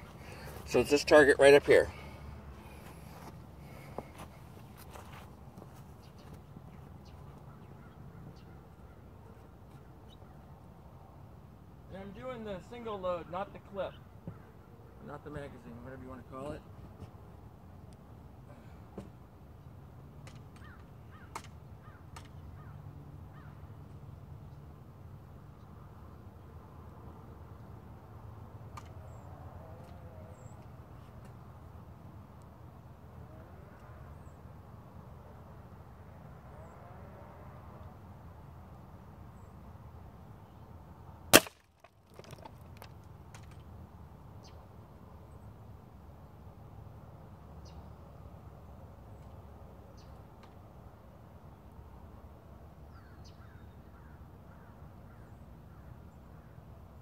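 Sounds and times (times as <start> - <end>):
low steady background noise: 0.0 - 57.0.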